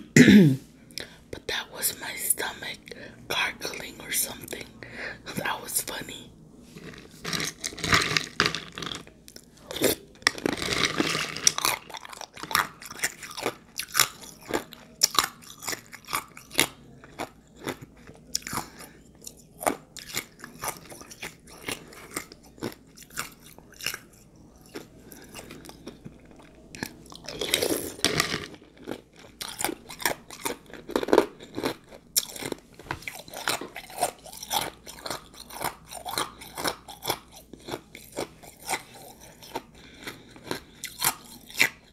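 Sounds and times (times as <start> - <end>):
chewing ice crunches: 6.8 - 9.1, 9.7 - 41.9.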